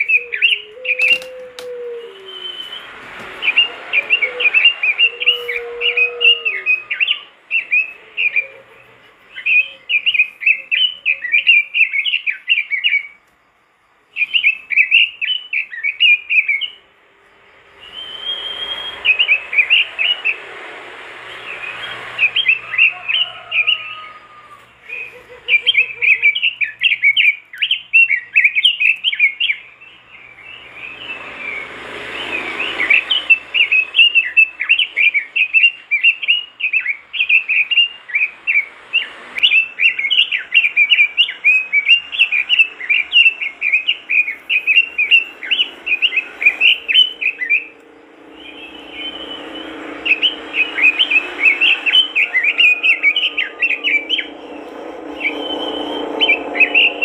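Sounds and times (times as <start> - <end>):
bird singing warbled notes: 0.0 - 13.2, 13.9 - 16.9, 17.5 - 20.6, 24.9 - 57.0.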